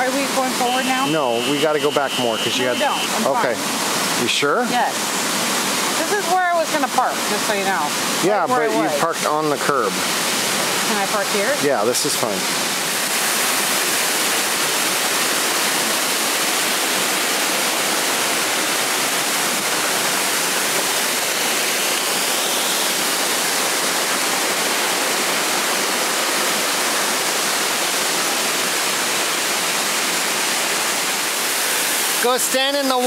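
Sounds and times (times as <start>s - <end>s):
waterfall splashing: 0.0s - 33.0s.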